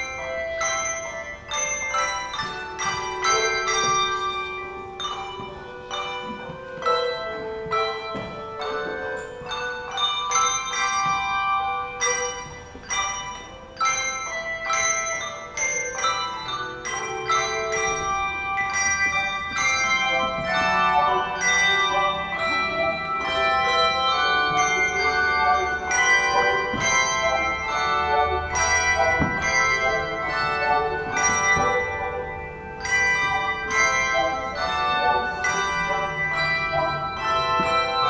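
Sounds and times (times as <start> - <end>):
handbells ringing chords: 0.0 - 38.0.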